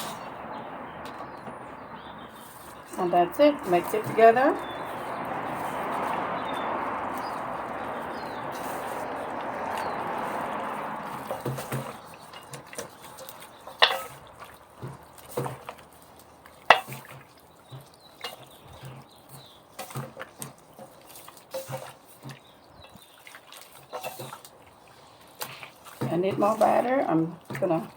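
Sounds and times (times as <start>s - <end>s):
wet batter squelching: 2.3s - 27.9s.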